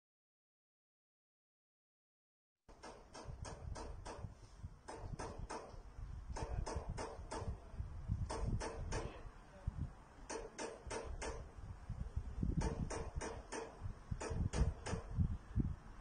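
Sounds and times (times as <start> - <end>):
low wind rumble on microphone: 3.2 - 16.0.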